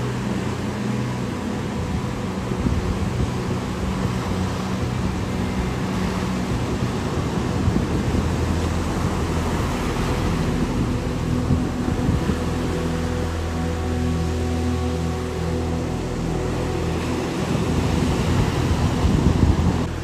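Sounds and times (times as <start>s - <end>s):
ambient music chords: 0.0s - 20.0s
ocean surf washing on beach: 0.0s - 20.0s.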